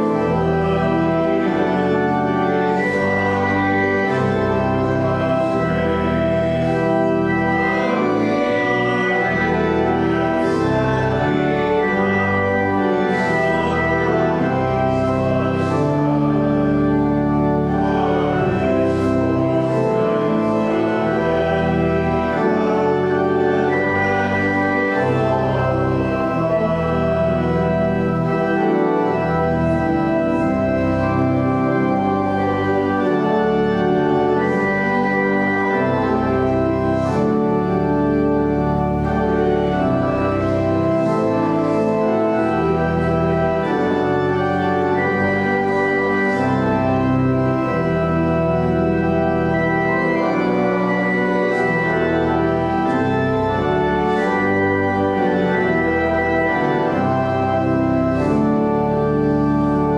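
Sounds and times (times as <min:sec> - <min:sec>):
church organ playing held chords: 0:00.0 - 0:59.9.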